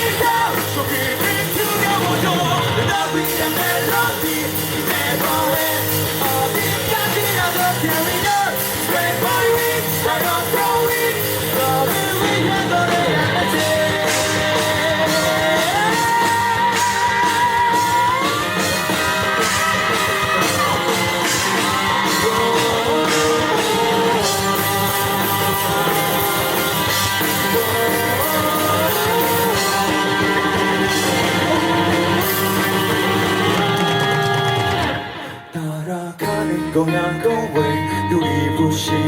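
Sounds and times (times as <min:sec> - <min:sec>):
drum kit with cymbal hits: 0:00.0 - 0:37.7
guitars and bass: 0:00.0 - 0:39.0
wavering lead guitar line: 0:00.0 - 0:39.0.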